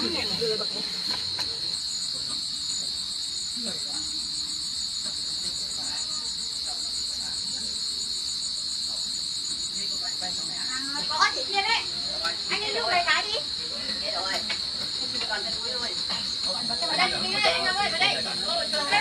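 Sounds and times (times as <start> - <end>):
insects chirring: 0.0 - 19.0
rapidly pulsing insect trill: 0.0 - 19.0.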